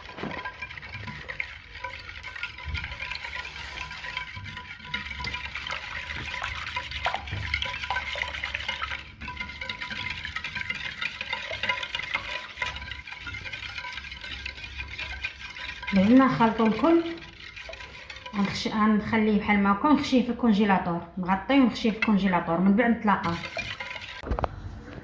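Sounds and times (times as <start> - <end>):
utensil scraping and clinking bowl: 0.0 - 20.4, 21.6 - 24.6
liquid sloshing in a bowl: 0.0 - 20.6, 21.6 - 25.0.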